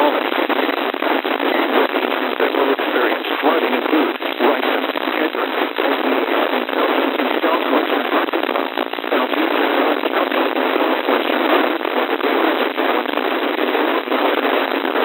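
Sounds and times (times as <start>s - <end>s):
crackles and pops: 0.0s - 15.0s
radio static hiss: 0.0s - 15.0s.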